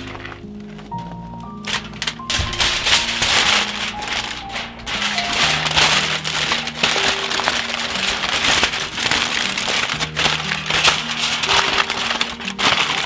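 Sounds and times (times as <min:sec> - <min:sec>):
aluminium foil crinkling: 0:00.0 - 0:13.0
background music with low notes: 0:00.0 - 0:13.0.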